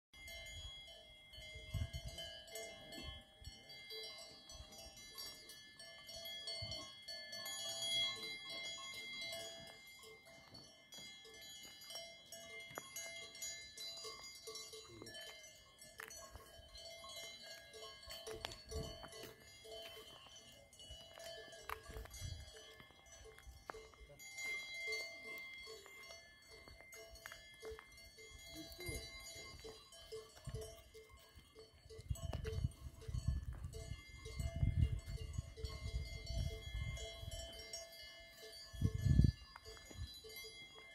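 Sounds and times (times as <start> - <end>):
cowbells ringing: 0.2 - 40.9.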